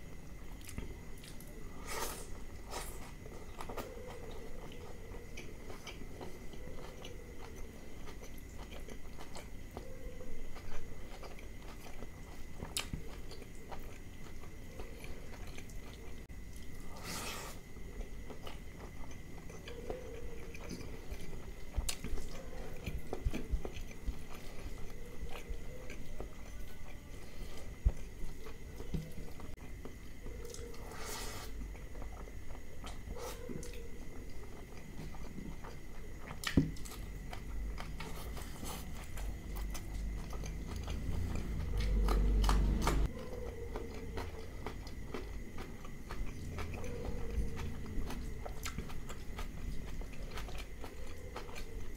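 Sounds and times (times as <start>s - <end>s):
person chewing food: 0.2s - 51.9s.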